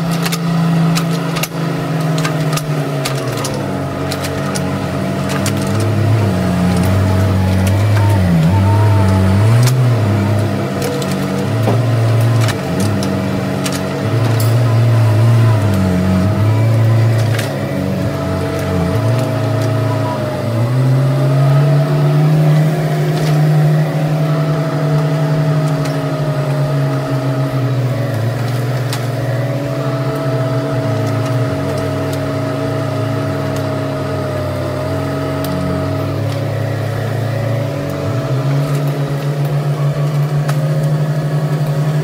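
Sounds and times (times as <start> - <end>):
mini excavator engine and hydraulics: 0.0 - 42.0.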